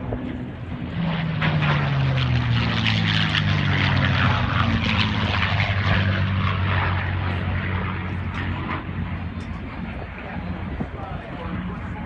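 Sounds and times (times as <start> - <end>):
propeller airplane flying by: 0.0 - 12.0.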